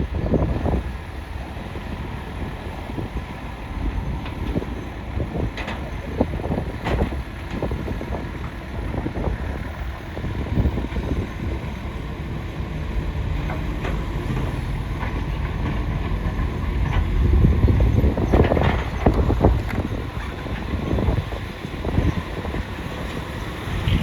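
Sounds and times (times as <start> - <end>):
excavator rumble: 0.0 - 24.0
wind buffeting microphone: 0.0 - 24.0.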